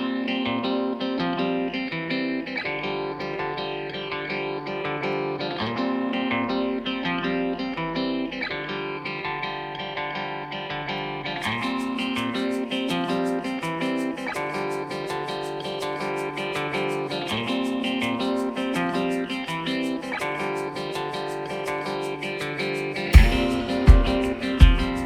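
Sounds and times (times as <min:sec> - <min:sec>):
plucked guitar music: 0:00.0 - 0:25.0.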